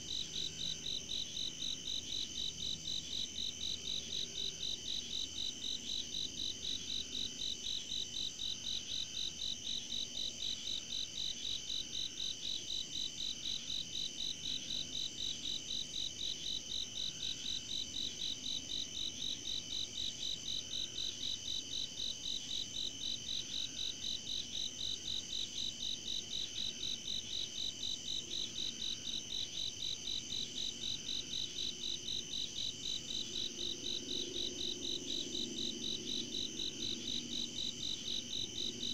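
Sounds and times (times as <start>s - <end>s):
crickets pulsing chirp: 0.0s - 38.9s.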